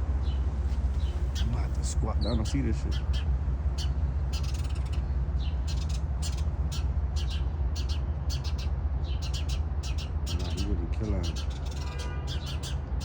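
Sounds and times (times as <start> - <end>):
steady low rumble: 0.0 - 11.8
small birds chirping: 0.2 - 13.0.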